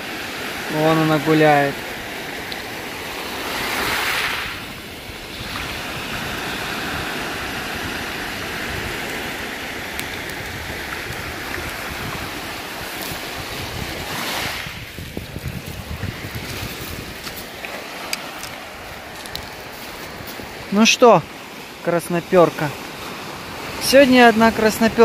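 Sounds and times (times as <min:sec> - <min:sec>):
wind buffeting the microphone: 0:00.0 - 0:21.8, 0:22.4 - 0:25.0
waves washing up a pebble shore: 0:00.0 - 0:25.0.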